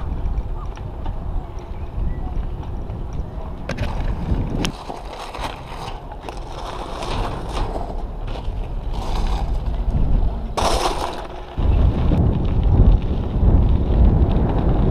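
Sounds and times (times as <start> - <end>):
bicycle tyres rolling and rattling: 0.0 - 14.9
wind buffeting microphone: 0.0 - 14.9.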